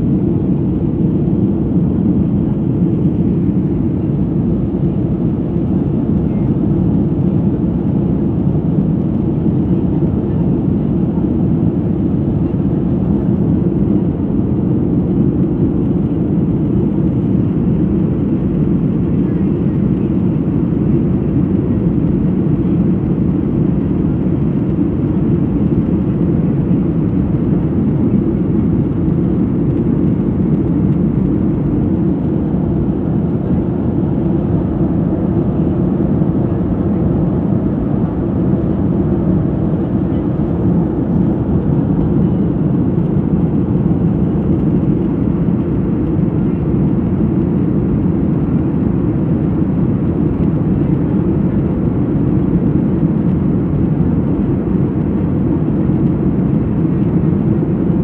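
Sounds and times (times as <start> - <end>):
jet cabin drone: 0.0 - 58.0.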